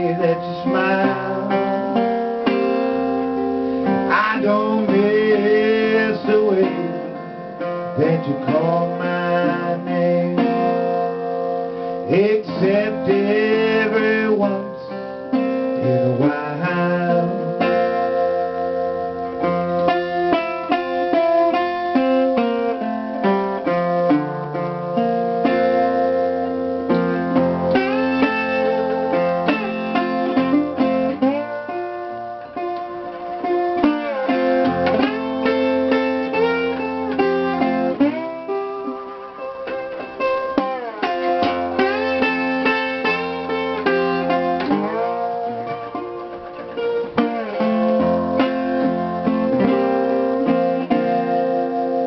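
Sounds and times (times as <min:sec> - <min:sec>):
slide steel guitar playing: 0:00.0 - 0:52.0.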